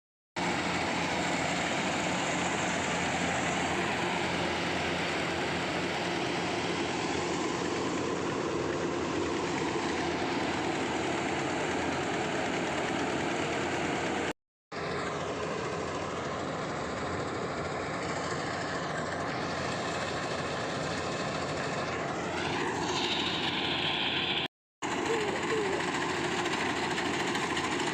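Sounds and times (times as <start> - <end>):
combine harvester running: 0.4 - 27.9.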